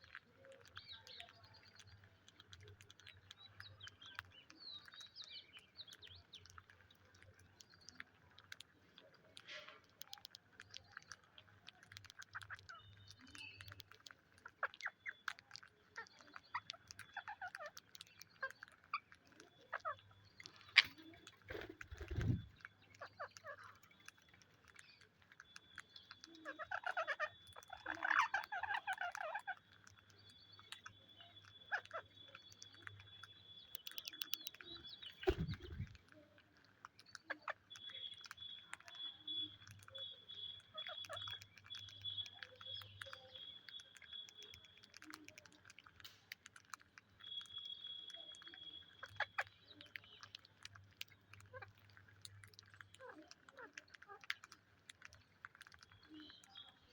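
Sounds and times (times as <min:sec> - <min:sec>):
parakeets chattering softly: 0:00.0 - 0:56.9
small clicks: 0:00.0 - 0:56.9.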